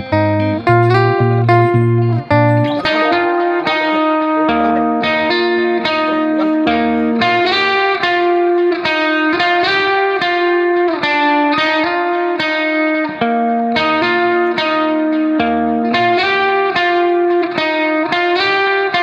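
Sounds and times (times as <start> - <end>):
plucked guitar melody: 0.0 - 19.0.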